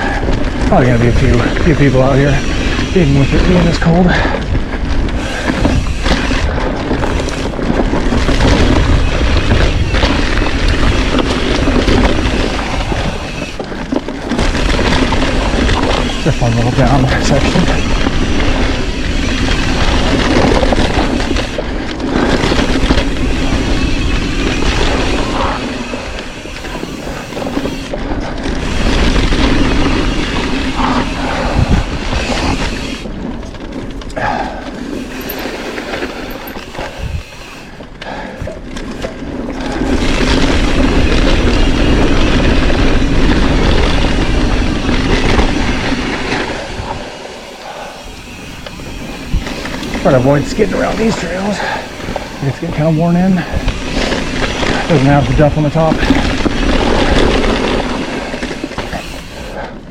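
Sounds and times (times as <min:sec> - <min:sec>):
bike rattling over bumps: 0:00.0 - 0:59.9
bike tyres rolling on dirt: 0:00.0 - 0:59.9
wind buffeting microphone: 0:00.0 - 0:59.9.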